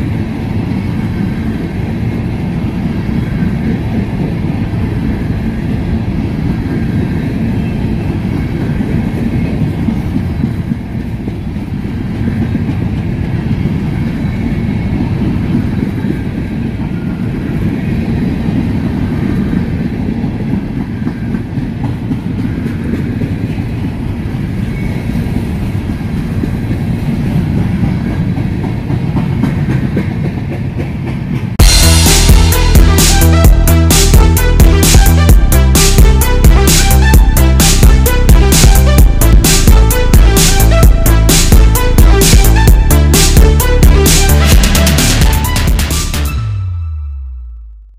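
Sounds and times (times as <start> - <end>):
freight train rolling past: 0.0 - 47.8
wheels rumbling on rails: 0.0 - 47.9.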